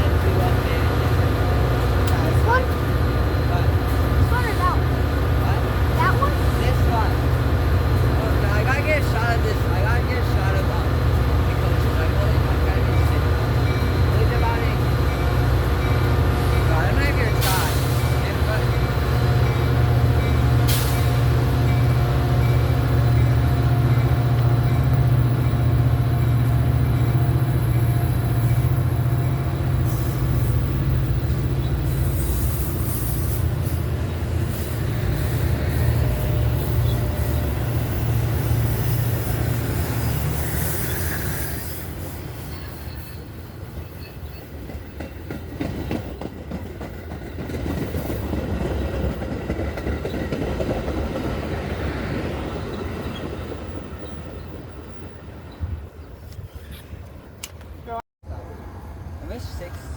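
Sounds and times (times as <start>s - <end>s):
rail clatter: 0.0s - 55.4s
diesel train engine drone: 0.0s - 59.9s
squealing train wheels: 6.0s - 55.8s.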